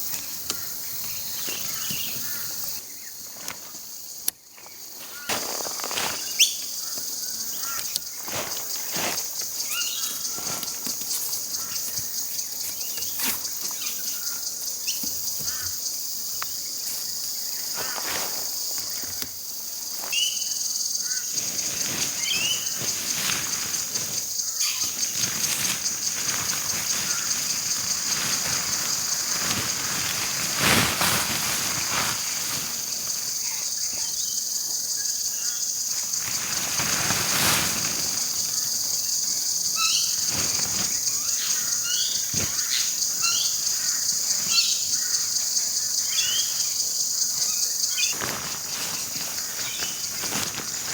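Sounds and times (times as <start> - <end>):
rustling and knocking of camping gear: 0.0 - 20.2, 20.8 - 34.2, 35.9 - 44.6, 47.4 - 50.9
insect chorus: 0.0 - 50.9.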